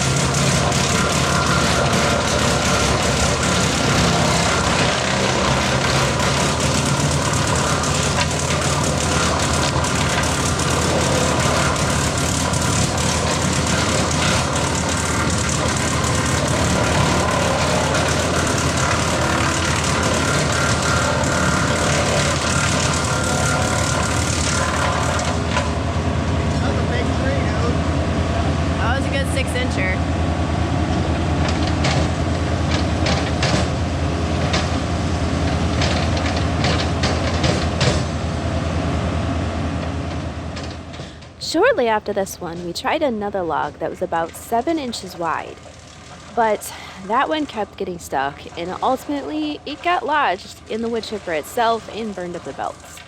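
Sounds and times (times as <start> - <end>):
tractor diesel engine running: 0.0 - 53.0
wood chipper chipping branches: 0.0 - 53.0.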